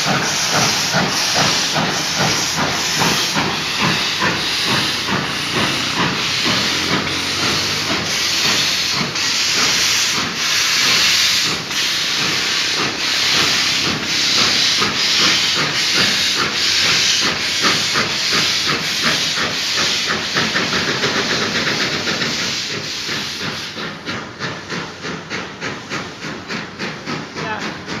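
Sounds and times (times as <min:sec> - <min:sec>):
steam locomotive chuffing: 0:00.0 - 0:28.0.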